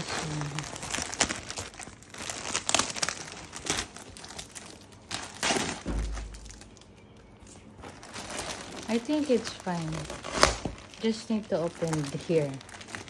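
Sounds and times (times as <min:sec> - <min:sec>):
plastic mailer bag crinkling: 0:00.0 - 0:13.0.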